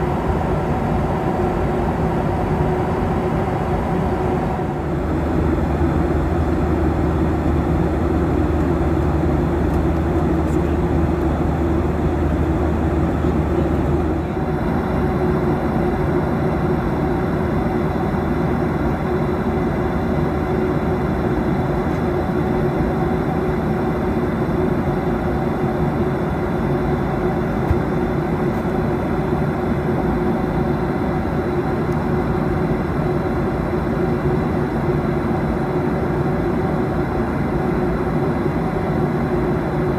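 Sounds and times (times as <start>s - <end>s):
jet engine cabin hum: 0.0s - 39.9s.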